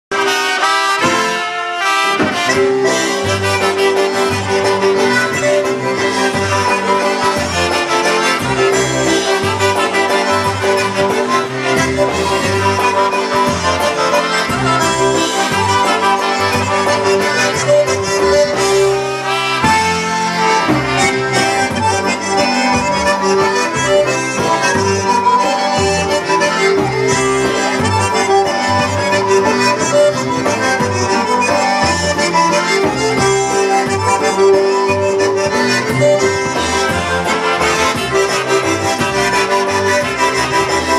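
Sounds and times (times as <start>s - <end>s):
concertina: 0.1s - 40.9s
drum kit: 0.1s - 40.9s
trumpets: 0.1s - 40.9s
electric bass guitar: 2.2s - 40.9s.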